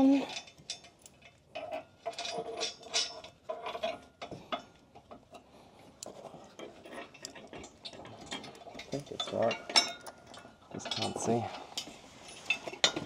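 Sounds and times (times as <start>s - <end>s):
metal hardware clicking and scraping: 0.0s - 13.0s.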